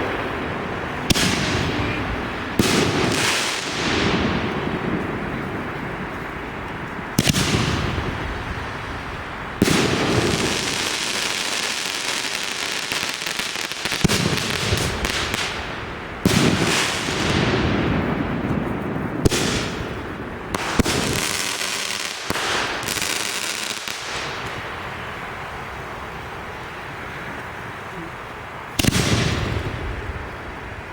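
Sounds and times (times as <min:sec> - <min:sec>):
fireworks banging and crackling: 0:00.0 - 0:26.6, 0:28.0 - 0:30.9.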